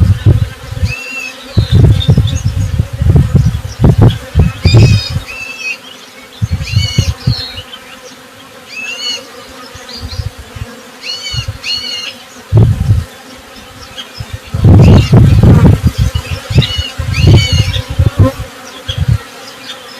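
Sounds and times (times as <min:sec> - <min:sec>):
bees buzzing: 0:00.0 - 0:19.9.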